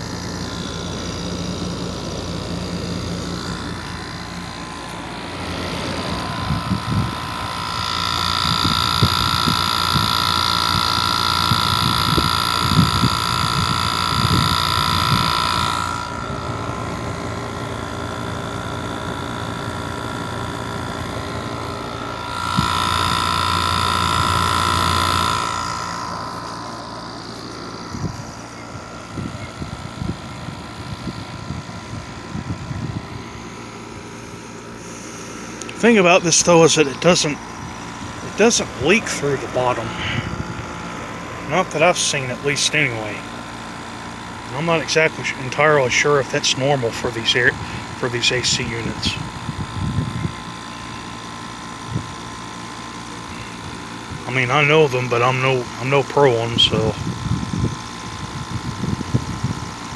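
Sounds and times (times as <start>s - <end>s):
air conditioner unit humming: 0.0s - 59.9s.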